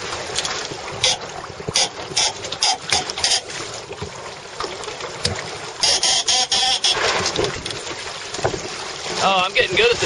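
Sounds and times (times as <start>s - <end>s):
water splashing against hulls: 0.0s - 10.0s.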